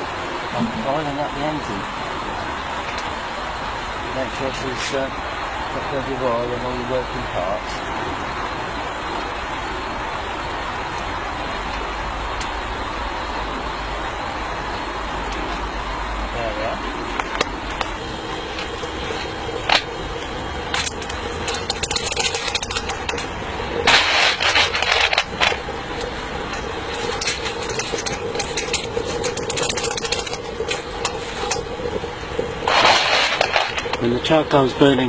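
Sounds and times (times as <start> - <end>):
loud rushing noise: 0.0 - 6.0, 7.8 - 34.7
electric fan humming: 0.0 - 35.0.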